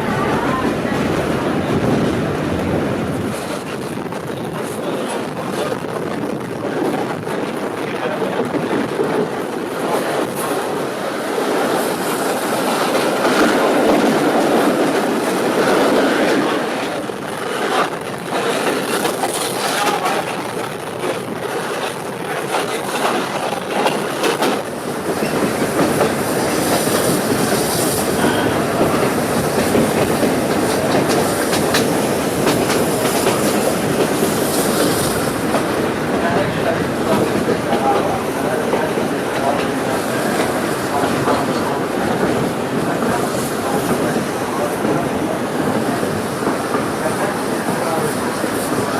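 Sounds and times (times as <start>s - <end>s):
steam train running: 0.0s - 48.9s.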